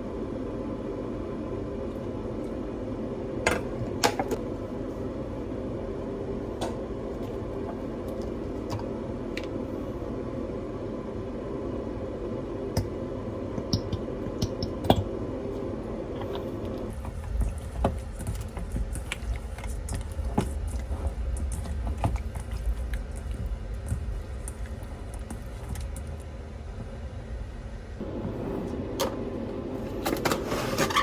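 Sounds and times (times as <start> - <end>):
mechanical fan hum: 0.0 - 31.0.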